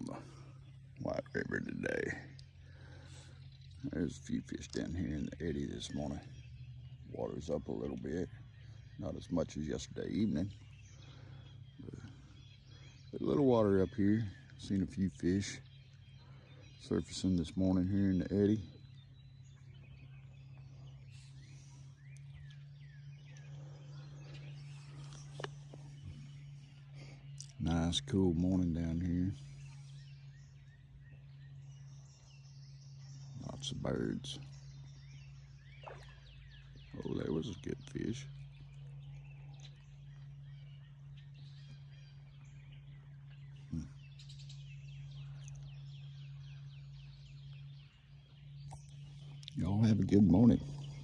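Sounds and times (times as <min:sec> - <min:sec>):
low steady hum: 0:00.0 - 0:51.0
songbirds chirping: 0:00.0 - 0:51.0
wild birds calling: 0:00.0 - 0:51.0.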